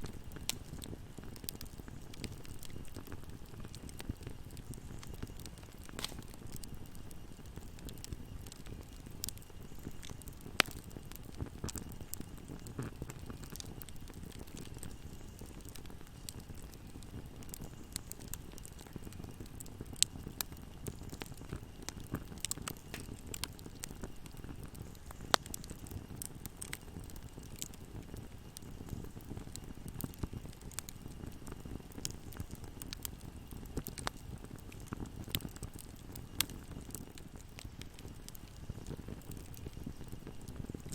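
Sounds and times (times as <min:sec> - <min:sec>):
fire crackling and popping: 0:00.0 - 0:40.9
fire flames rumbling: 0:00.0 - 0:40.9.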